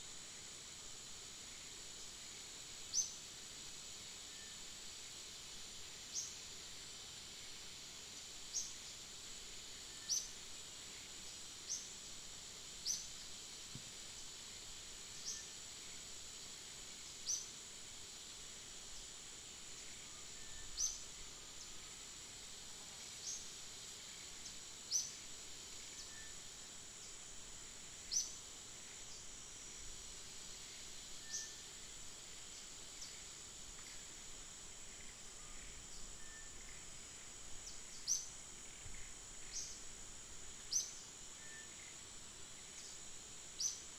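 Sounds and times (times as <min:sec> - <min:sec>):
high-pitched insect drone: 0:00.1 - 0:13.6, 0:14.3 - 0:43.9.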